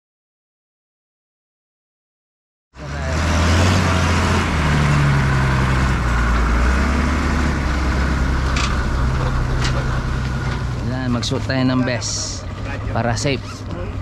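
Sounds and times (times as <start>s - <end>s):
engine running with low hum: 2.8s - 14.0s.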